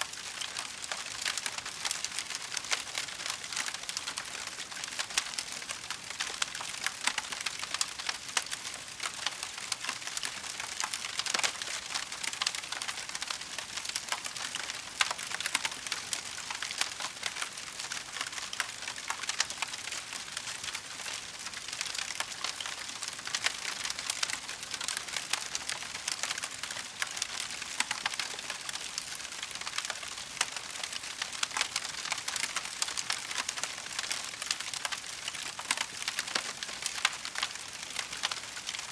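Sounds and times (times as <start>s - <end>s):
logs crackling and popping: 0.0s - 38.9s.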